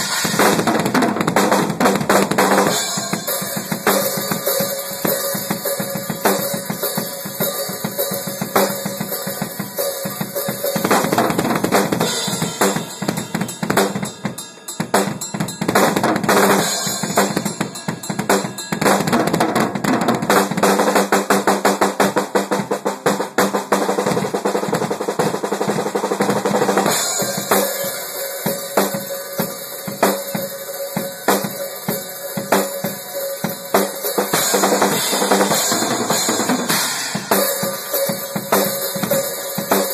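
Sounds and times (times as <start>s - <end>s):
drum kit playing rolls: 0.0s - 39.9s.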